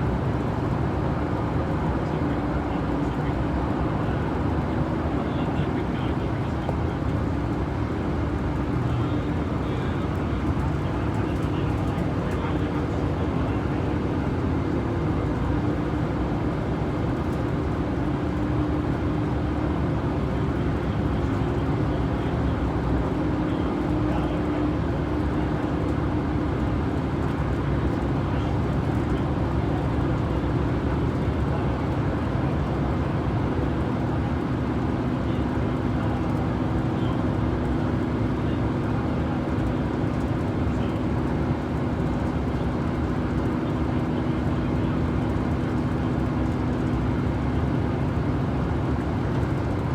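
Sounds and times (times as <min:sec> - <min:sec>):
bus engine hum: 0:00.0 - 0:49.9
road noise: 0:00.0 - 0:49.9.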